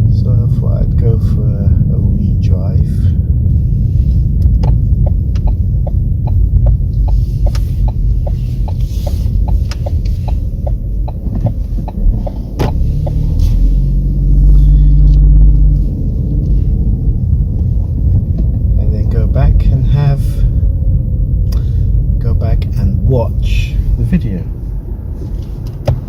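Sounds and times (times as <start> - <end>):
car engine rumble: 0.0 - 26.0
turn signal ticking: 3.1 - 26.0.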